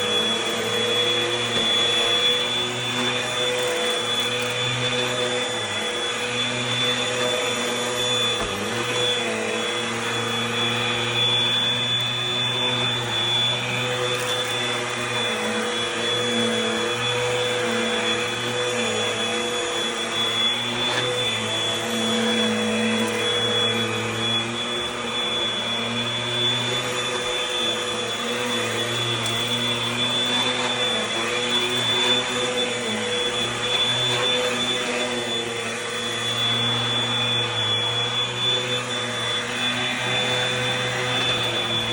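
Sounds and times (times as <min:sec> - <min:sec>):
vacuum cleaner running on carpet: 0:00.0 - 0:41.9.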